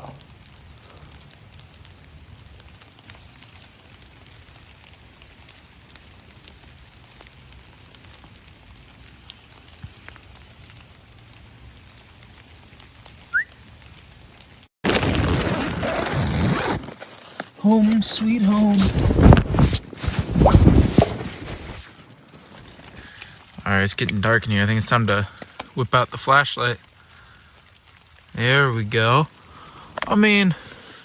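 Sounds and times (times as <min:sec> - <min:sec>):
rain falling: 0:00.0 - 0:16.3, 0:20.8 - 0:31.0.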